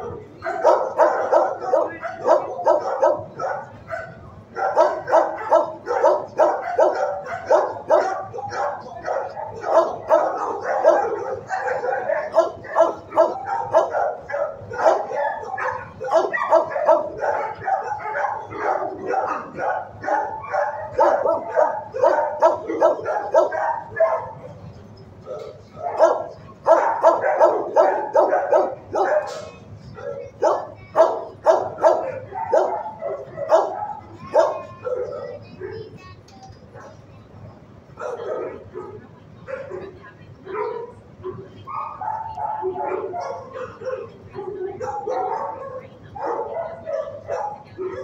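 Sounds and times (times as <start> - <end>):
dogs barking: 0.0 - 48.0.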